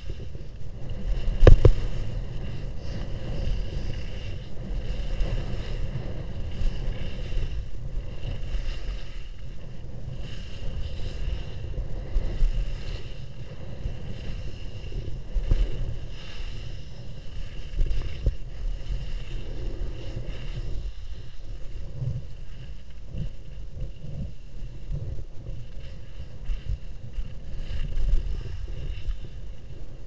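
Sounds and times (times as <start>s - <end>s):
skis sliding over snow: 0.0s - 30.0s
wind buffeting microphone: 0.0s - 30.0s.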